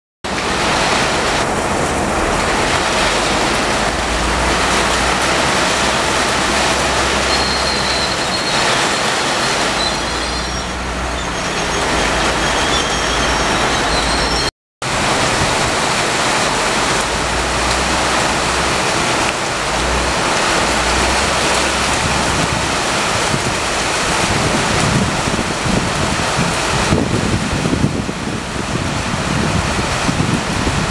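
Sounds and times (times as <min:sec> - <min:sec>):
heavy rain hissing: 0:00.3 - 0:30.9
passing train rumble: 0:00.3 - 0:30.9.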